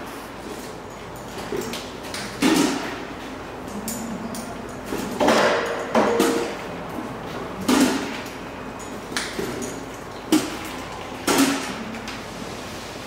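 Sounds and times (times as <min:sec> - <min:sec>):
metal milking units clanking: 0:00.0 - 0:12.5.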